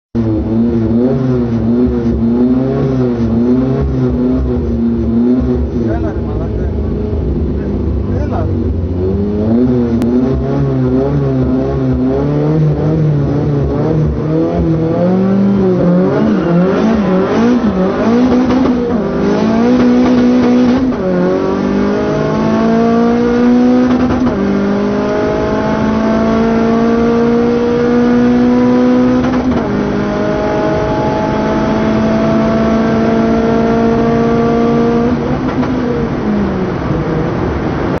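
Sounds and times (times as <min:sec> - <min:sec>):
car engine accelerating: 0:00.2 - 0:38.0.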